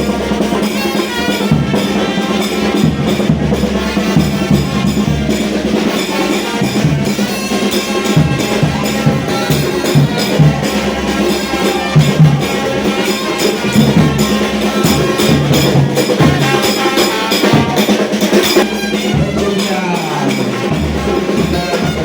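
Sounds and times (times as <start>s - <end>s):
percussion beat: 0.0s - 22.0s.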